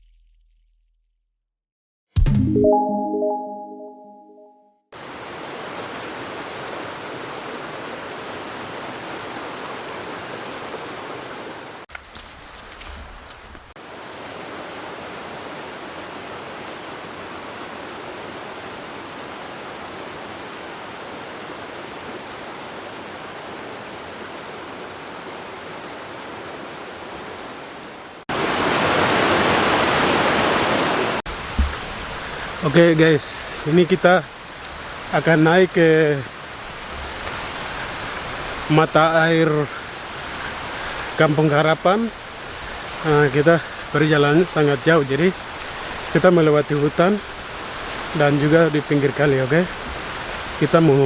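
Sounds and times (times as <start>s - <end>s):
stream water rushing: 5.0s - 12.3s, 13.0s - 51.0s.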